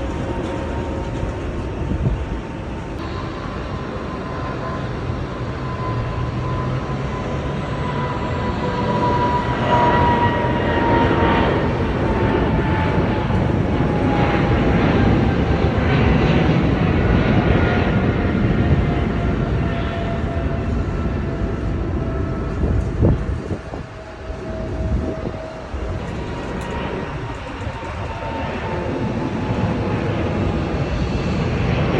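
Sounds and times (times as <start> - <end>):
jet airliner passing overhead: 0.0 - 31.9.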